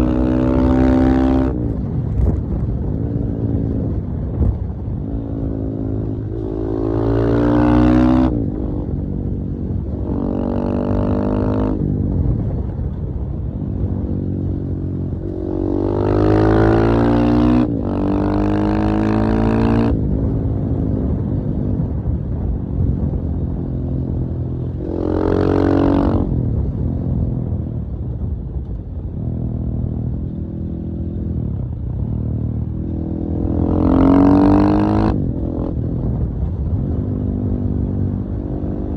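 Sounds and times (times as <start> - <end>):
motorcycle engine revving: 0.0 - 12.5, 13.8 - 22.1, 22.8 - 27.8, 29.1 - 38.9.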